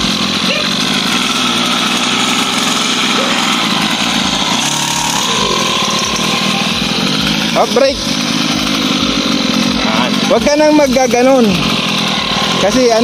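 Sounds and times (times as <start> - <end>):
two-stroke dirt bike engine: 0.0 - 13.0.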